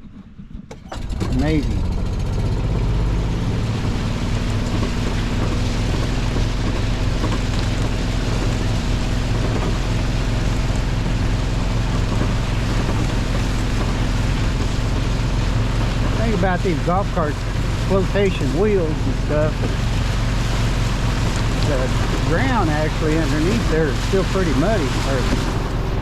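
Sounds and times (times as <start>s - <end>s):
small vehicle engine running: 0.0s - 26.0s.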